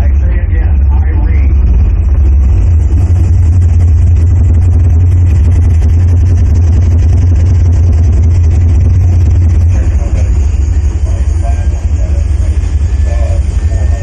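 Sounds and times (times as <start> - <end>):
deep bass rumble of film soundtrack: 0.0 - 14.0
engine-like vehicle noise: 0.0 - 14.0.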